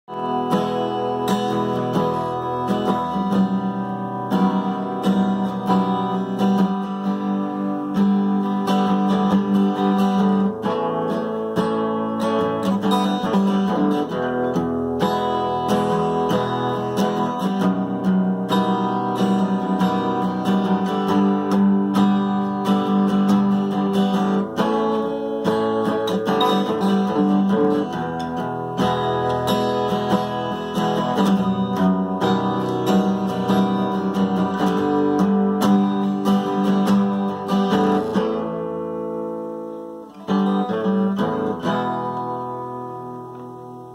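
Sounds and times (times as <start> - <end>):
acoustic guitar plucked notes: 0.1 - 43.9.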